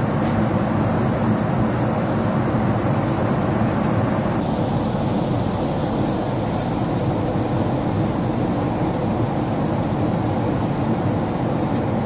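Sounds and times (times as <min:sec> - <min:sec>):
airliner cabin noise: 0:00.1 - 0:12.0.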